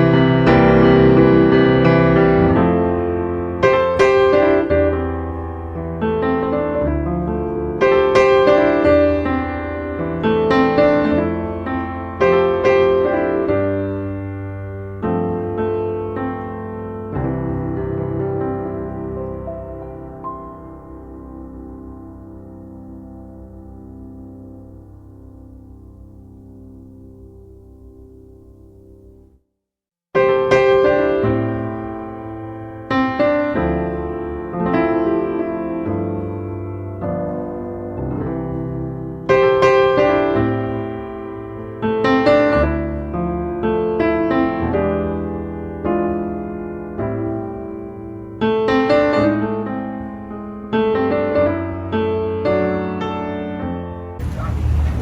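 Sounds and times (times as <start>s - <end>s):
piano chords ringing: 0.0s - 29.3s, 30.2s - 55.0s.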